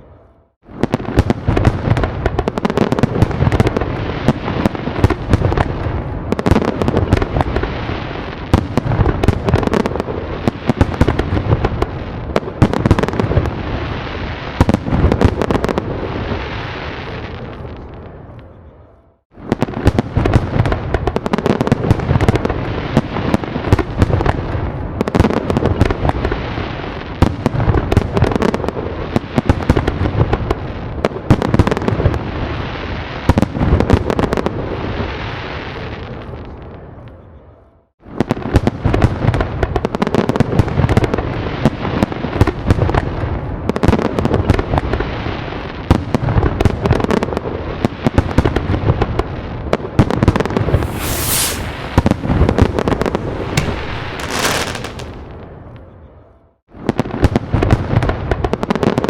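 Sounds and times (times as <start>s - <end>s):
fireworks cracks pops and booms: 0.7s - 17.9s, 19.4s - 36.6s, 38.0s - 55.5s.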